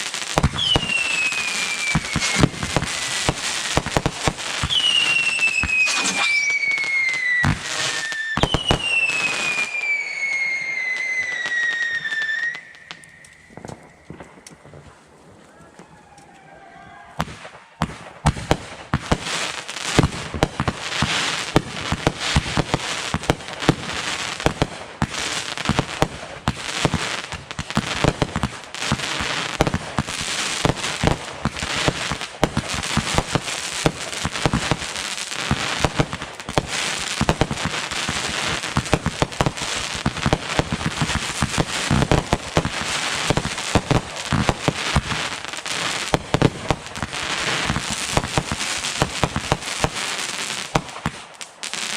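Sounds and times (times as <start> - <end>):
fireworks popping and banging: 0.0 - 15.9, 17.2 - 51.9
fireworks crackling: 0.0 - 16.1, 17.2 - 51.9.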